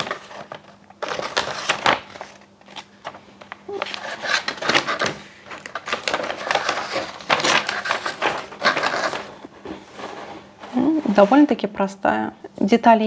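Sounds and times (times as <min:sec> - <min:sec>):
paper rustling and crackling: 0:00.0 - 0:11.6.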